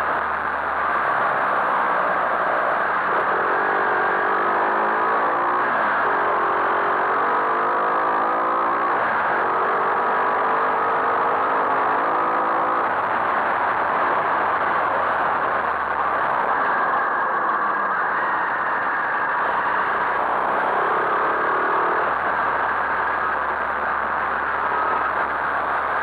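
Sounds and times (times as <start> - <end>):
motorcycle engine accelerating: 0.0 - 26.0
wind and road noise: 0.0 - 26.0.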